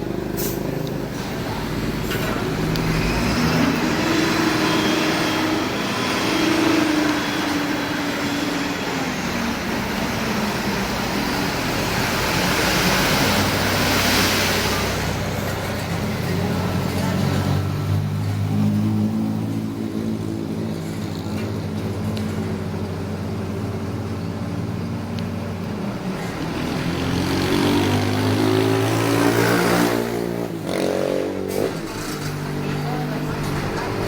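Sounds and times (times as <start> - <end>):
heavy diesel machinery running: 0.0 - 34.0.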